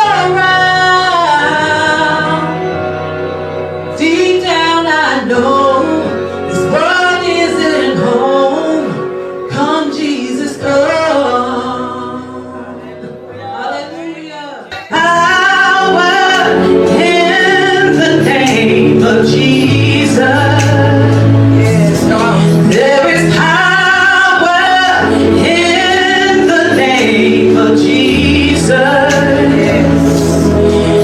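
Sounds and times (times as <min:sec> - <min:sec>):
voices singing gospel: 0:00.0 - 0:31.0.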